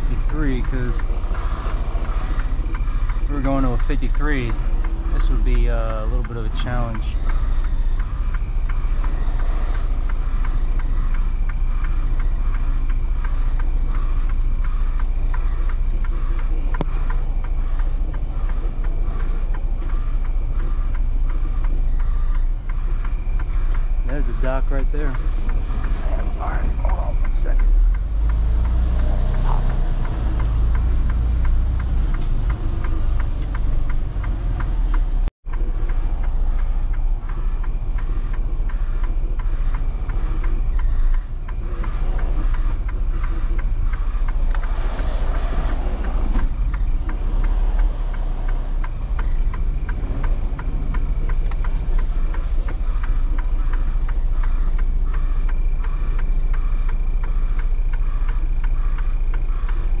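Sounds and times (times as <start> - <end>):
diesel truck engine running: 0.0 - 60.0
fast even ticking: 0.0 - 60.0.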